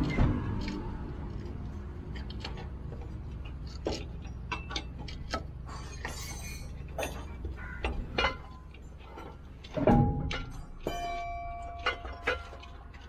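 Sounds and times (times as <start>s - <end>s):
metallic clicks of spanner and nuts: 2.1s - 13.0s.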